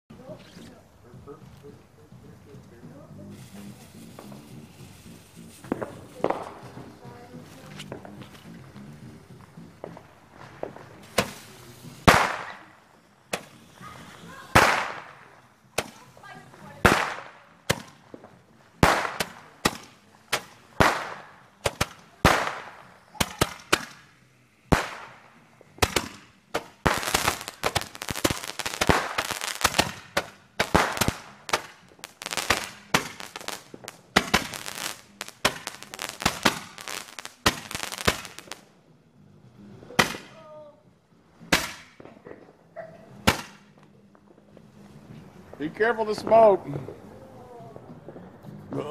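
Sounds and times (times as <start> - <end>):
fireworks bangs: 0.2 - 38.7, 39.8 - 40.6, 41.4 - 48.9.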